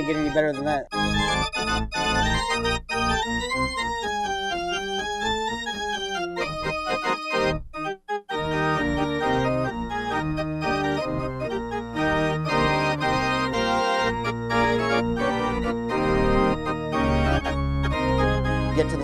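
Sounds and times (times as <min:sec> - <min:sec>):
electronic organ playing chords: 0:00.0 - 0:19.0.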